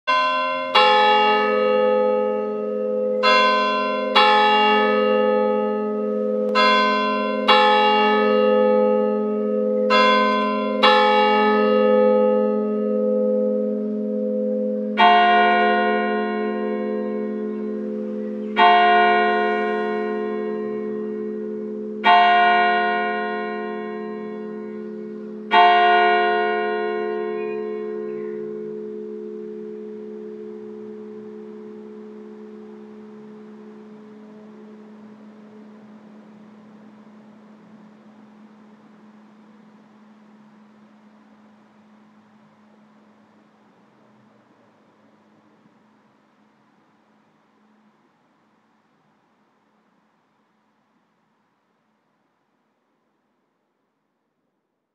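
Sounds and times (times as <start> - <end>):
church bells ringing: 0.1 - 48.1.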